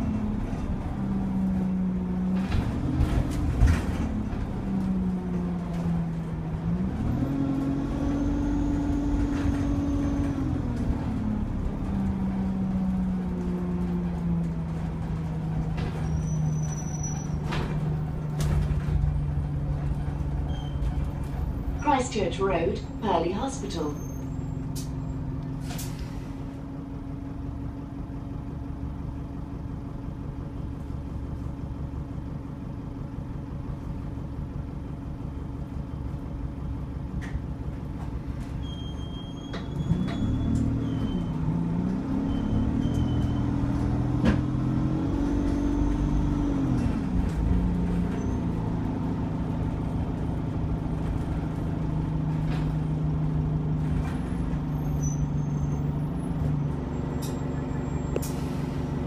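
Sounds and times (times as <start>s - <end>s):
bus engine and transmission: 0.0s - 59.0s.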